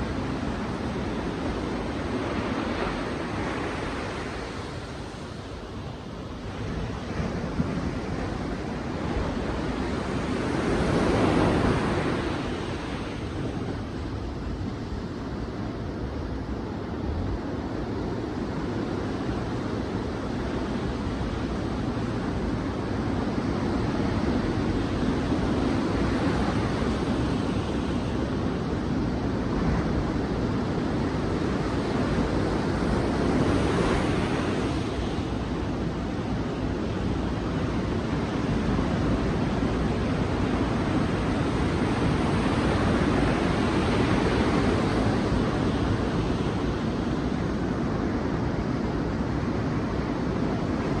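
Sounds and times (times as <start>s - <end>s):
ocean waves breaking on beach: 0.0s - 51.0s
wind on microphone: 0.0s - 51.0s.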